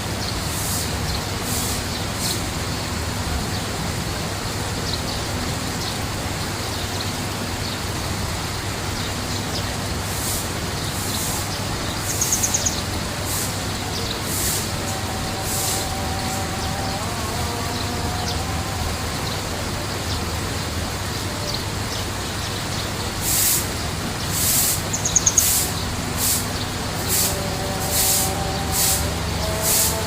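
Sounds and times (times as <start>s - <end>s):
small birds chirping: 0.0s - 30.0s
steady rushing noise: 0.0s - 30.0s.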